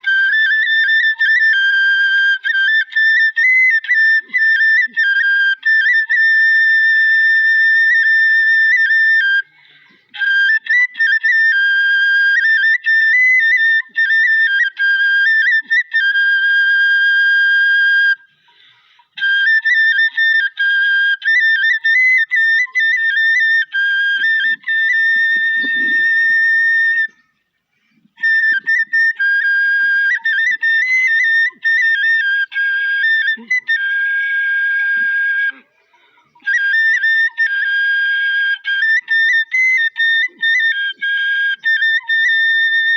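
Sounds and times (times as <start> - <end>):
high flute-like melody: 0.0 - 42.9.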